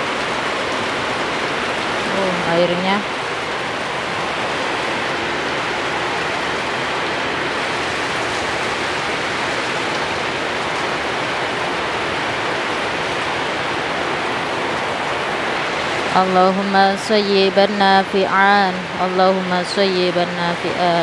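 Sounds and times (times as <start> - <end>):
heavy rain pouring: 0.0 - 21.0
running water: 0.0 - 21.0.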